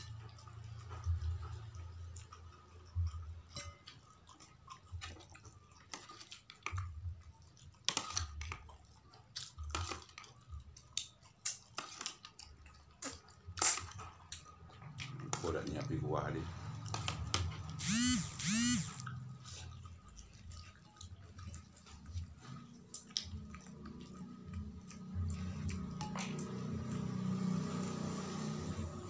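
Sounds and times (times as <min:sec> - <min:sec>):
chewing and wet mouth smacks: 0:00.0 - 0:28.9.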